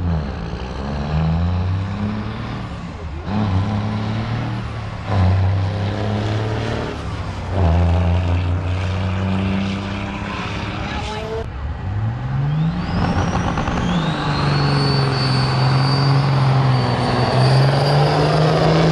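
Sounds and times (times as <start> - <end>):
heavy diesel truck engines: 0.0 - 18.9.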